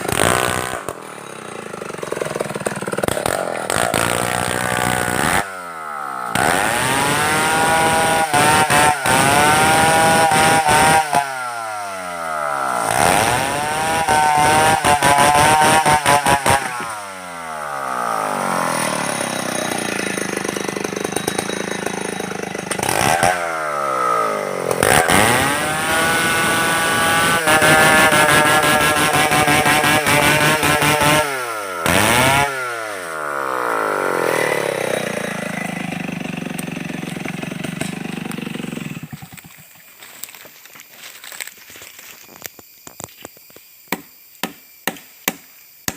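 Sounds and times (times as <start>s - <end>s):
chainsaw revving: 0.0s - 42.1s.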